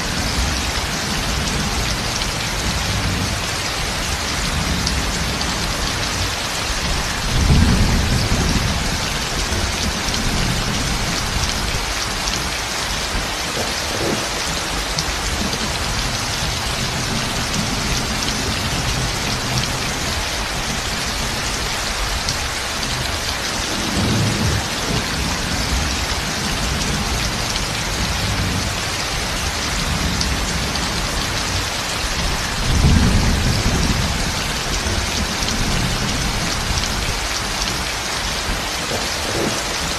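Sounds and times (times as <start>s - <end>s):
heavy rain on a metal roof: 0.0s - 39.9s
thunder rumbling: 0.0s - 39.9s.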